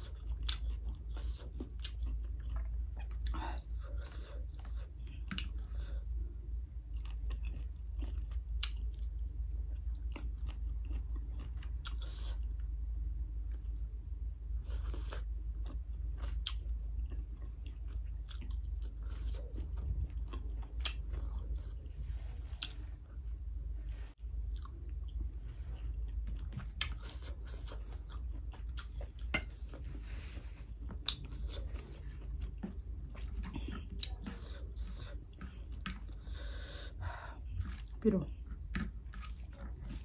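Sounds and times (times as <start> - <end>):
low steady hum: 0.0 - 40.0
person chewing food: 0.0 - 40.0.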